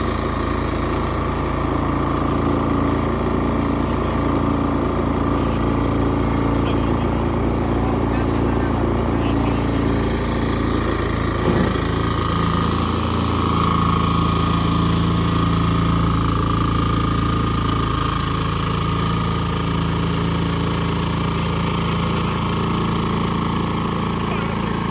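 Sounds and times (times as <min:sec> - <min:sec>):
lawn mower engine running: 0:00.0 - 0:24.9.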